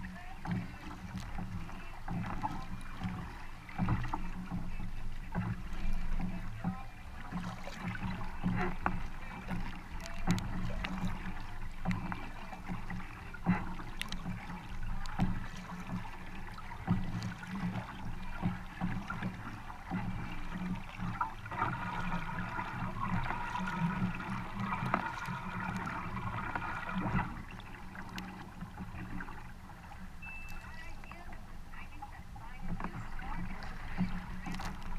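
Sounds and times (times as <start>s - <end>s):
paddle blades splashing: 0.0s - 34.9s
water rushing along hull: 0.0s - 34.9s.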